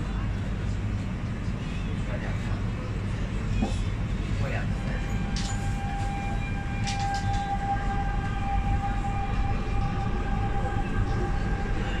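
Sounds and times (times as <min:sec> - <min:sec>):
train high whine: 0:00.0 - 0:12.0
train low rumble: 0:00.0 - 0:12.0.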